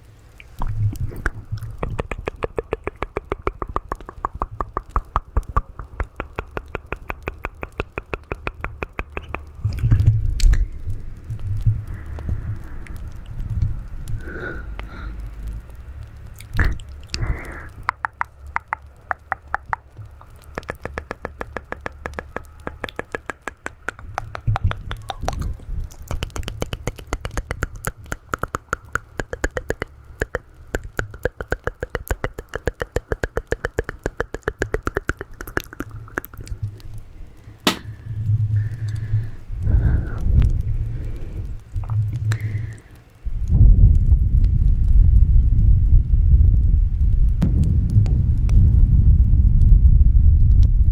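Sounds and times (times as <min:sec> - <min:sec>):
wet tongue and lip clicks: 0:00.0 - 0:44.6.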